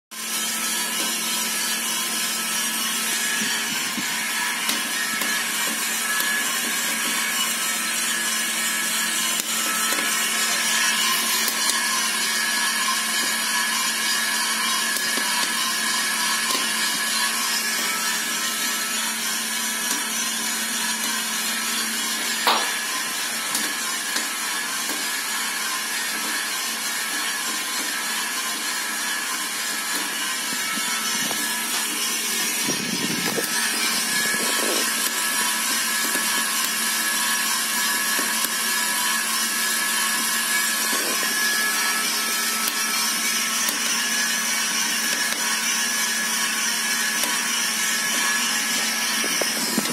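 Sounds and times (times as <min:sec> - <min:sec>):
coffee roaster rushing noise: 0:00.1 - 0:49.9.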